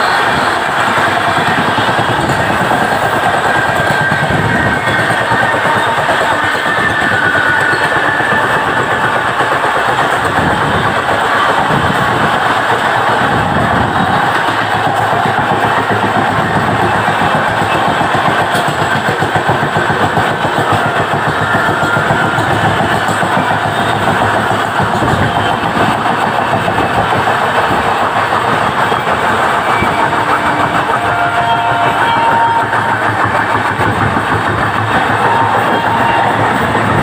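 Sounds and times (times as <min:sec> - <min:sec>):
rattle of train wheels on rails: 0:00.0 - 0:37.0.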